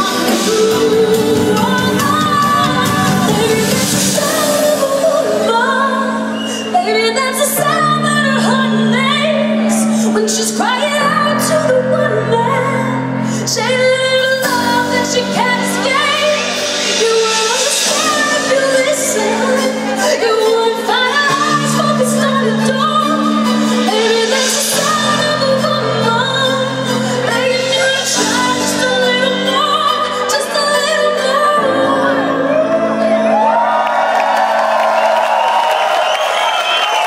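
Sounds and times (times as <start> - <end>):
woman singing: 0.0 - 33.7
pop band playing: 0.0 - 37.0.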